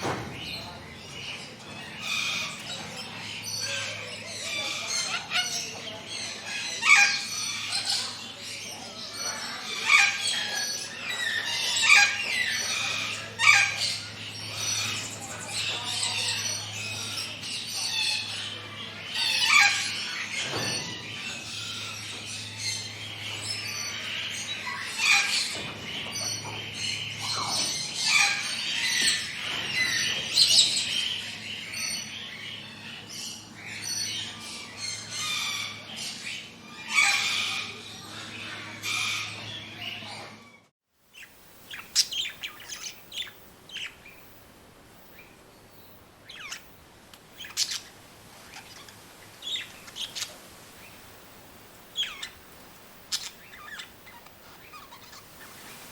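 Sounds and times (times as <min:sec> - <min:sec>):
forest birds chirping: 0:00.0 - 0:55.9.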